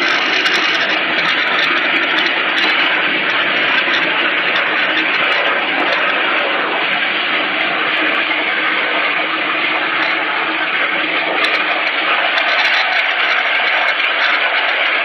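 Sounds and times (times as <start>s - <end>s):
waterjet cutter hissing: 0.0s - 15.0s.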